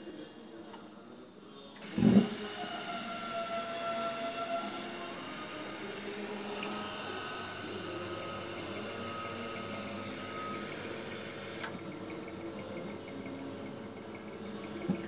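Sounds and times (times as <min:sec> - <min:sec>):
machine hum with held tones: 0:01.5 - 0:15.0.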